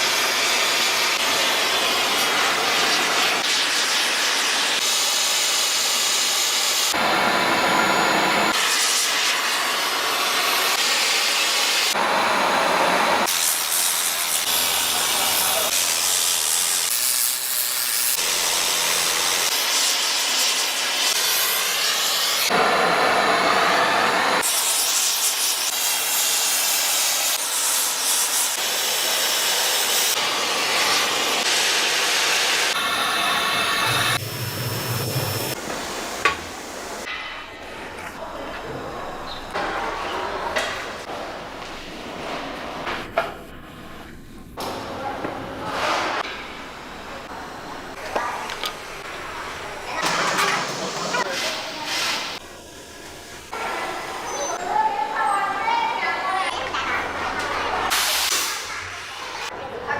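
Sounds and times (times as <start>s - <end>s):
factory machinery hissing and grinding: 0.0s - 37.7s, 45.6s - 54.6s, 56.3s - 59.5s.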